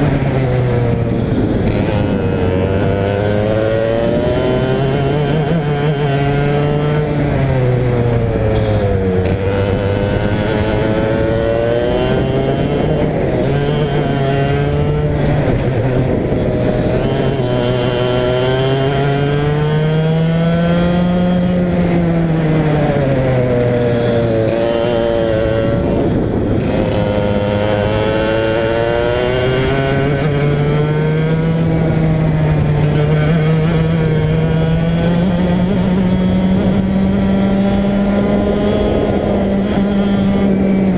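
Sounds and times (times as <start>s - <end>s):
racing kart engine: 0.0s - 40.9s.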